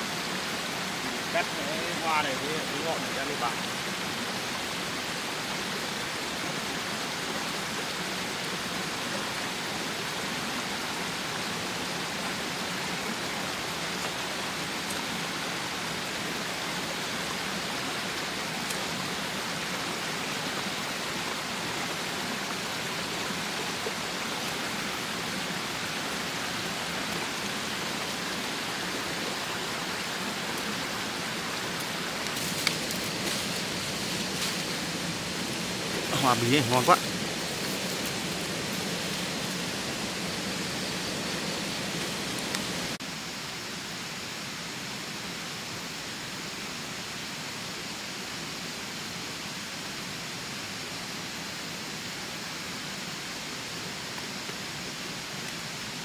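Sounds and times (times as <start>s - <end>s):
water rushing hiss: 0.0s - 56.0s.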